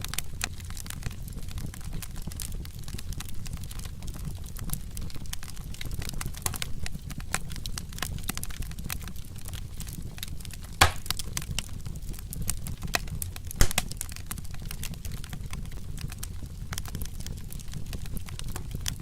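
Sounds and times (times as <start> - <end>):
loud fire pops: 0.0 - 19.0
wood fire crackling: 0.0 - 19.0.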